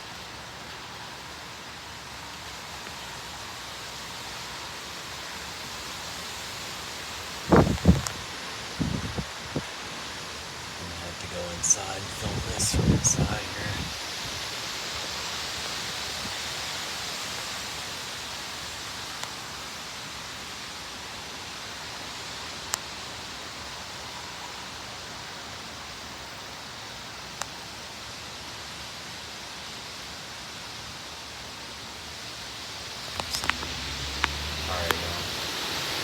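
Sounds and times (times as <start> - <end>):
rain and wind hissing: 0.0 - 36.0.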